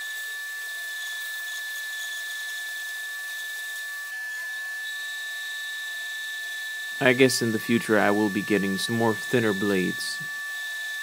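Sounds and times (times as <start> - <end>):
bandsaw whining through wood: 0.0 - 11.0.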